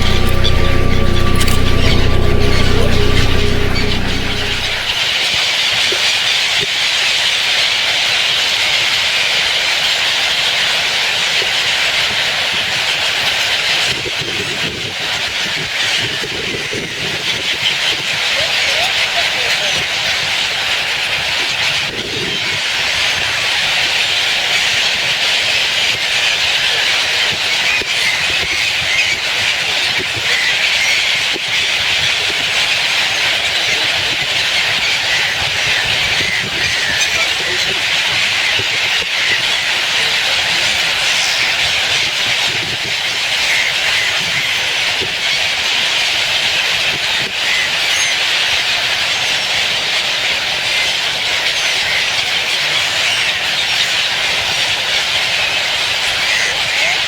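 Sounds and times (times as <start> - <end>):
large flock of birds chirping: 0.0 - 57.0.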